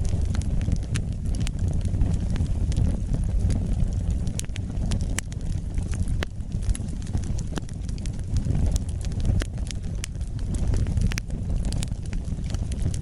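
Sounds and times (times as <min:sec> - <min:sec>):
burning wood crackling: 0:00.0 - 0:13.0
low rumble of flames: 0:00.0 - 0:13.0.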